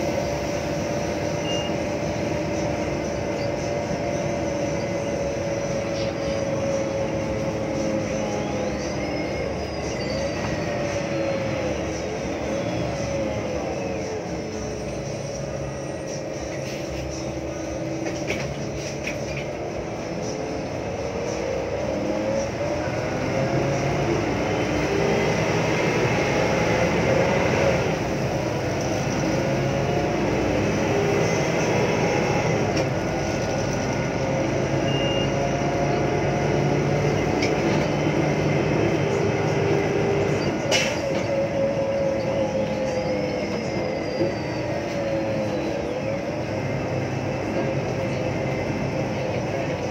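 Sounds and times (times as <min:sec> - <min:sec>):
bus engine and transmission whine: 0:00.0 - 0:49.9.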